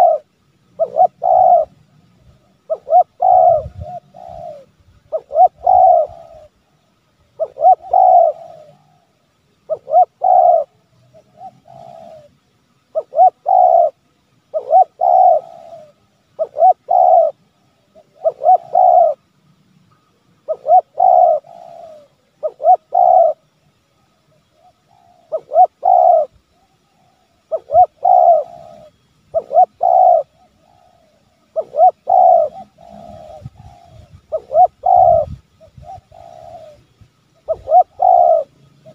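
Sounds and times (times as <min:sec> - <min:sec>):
dove cooing: 0:00.0 - 0:19.3, 0:19.9 - 0:38.9.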